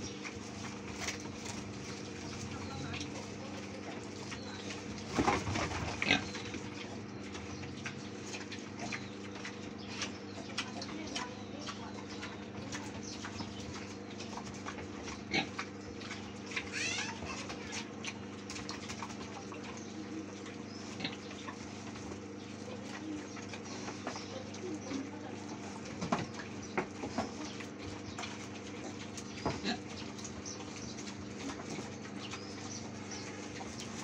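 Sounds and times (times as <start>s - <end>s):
pigs chewing and crunching greens: 0.0s - 34.0s
pigs snuffling: 0.0s - 34.0s.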